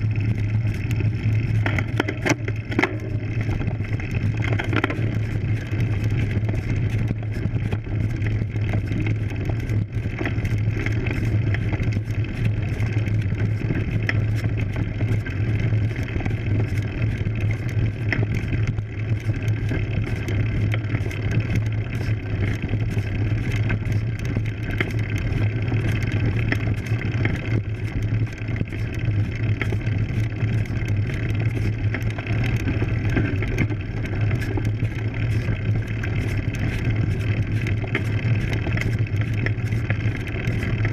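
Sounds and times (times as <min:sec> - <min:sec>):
bike tyres rolling on loose grit: 0:00.0 - 0:40.9.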